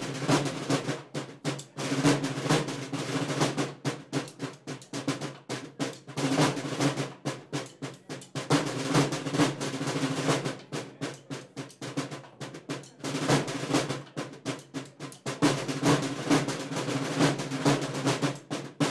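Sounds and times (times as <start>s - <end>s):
percussion music with drum rolls: 0.0s - 18.9s.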